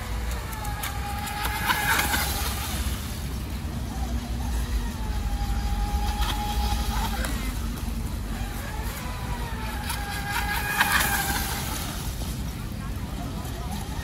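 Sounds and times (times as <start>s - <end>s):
model boat motor whining: 0.0s - 14.0s.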